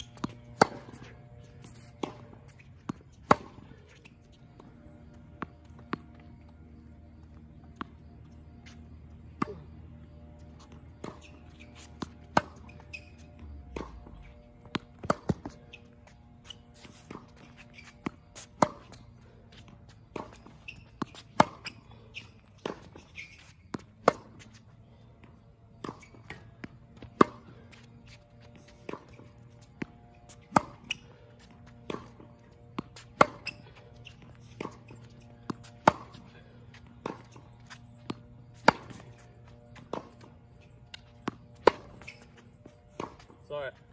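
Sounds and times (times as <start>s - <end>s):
low hum: 0.0s - 43.9s.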